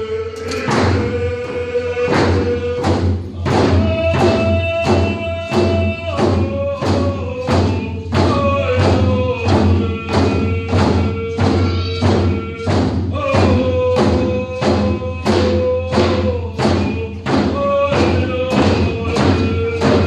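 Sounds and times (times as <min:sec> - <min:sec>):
group singing held notes: 0:00.0 - 0:20.0
hand drums beating: 0:00.4 - 0:20.0.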